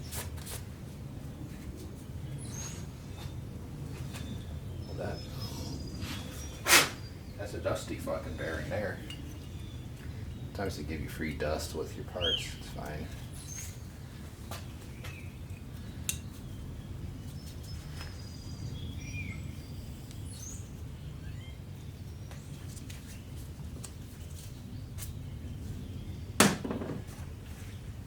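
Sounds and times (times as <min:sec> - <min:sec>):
low steady background hum: 0:00.0 - 0:28.0.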